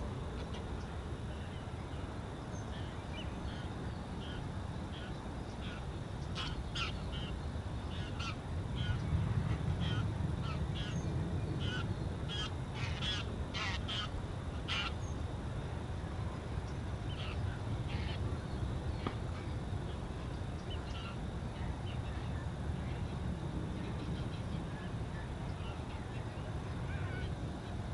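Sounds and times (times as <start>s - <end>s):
steady low rumble: 0.0s - 27.9s.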